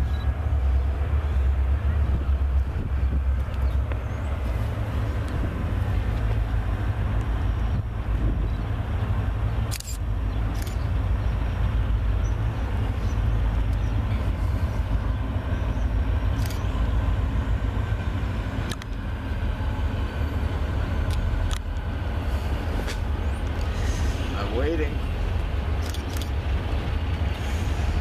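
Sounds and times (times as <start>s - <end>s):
diesel locomotive engines rumbling: 0.0s - 28.0s.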